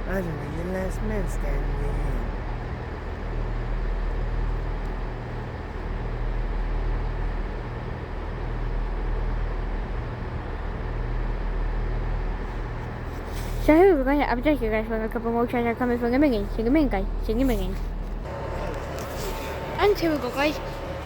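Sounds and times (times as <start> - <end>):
diesel train engine idling: 0.0 - 21.0.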